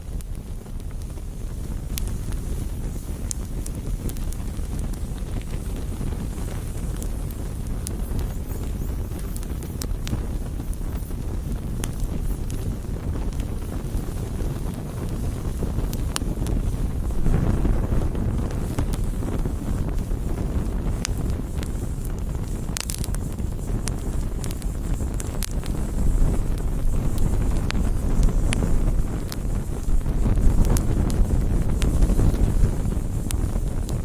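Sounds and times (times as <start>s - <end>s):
campfire crackling and popping: 0.0s - 34.0s
low fire rumble: 0.0s - 34.0s.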